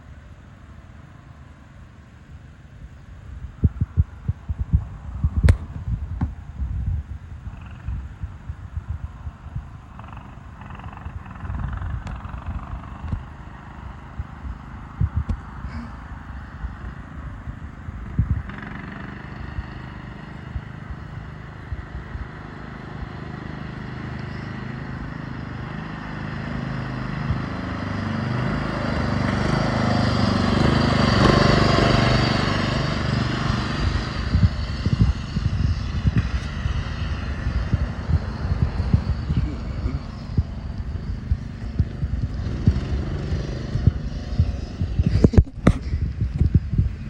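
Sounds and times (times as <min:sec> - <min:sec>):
riding lawn mower engine: 0:00.0 - 0:47.0.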